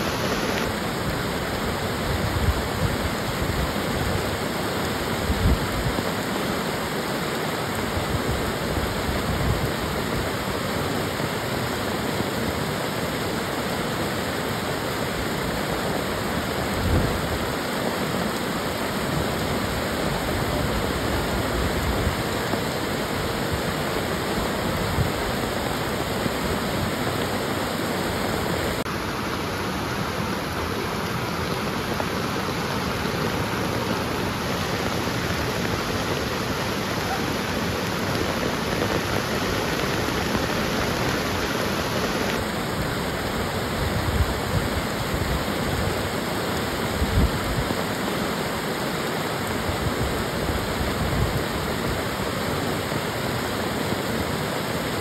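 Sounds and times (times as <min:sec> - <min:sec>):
heavy rain: 0:00.0 - 0:55.0
rushing floodwater: 0:00.0 - 0:55.0.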